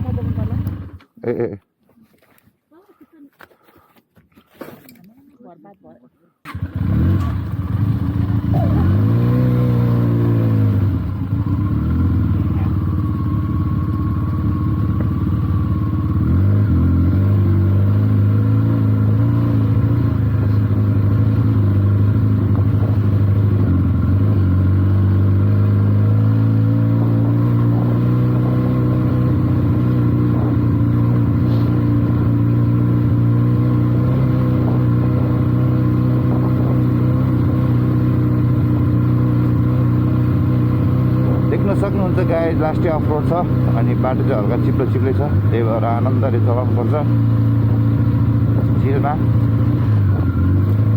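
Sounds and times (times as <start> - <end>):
motorcycle engine running: 0.0 - 1.5, 6.5 - 50.9.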